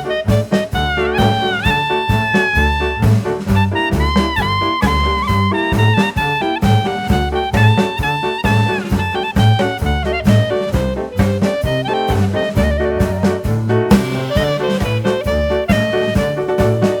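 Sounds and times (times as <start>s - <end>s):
upbeat swing jazz with brass: 0.0s - 17.0s.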